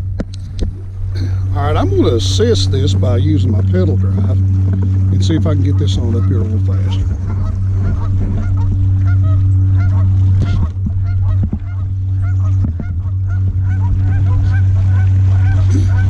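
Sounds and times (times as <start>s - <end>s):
electric motor humming: 0.0s - 16.0s.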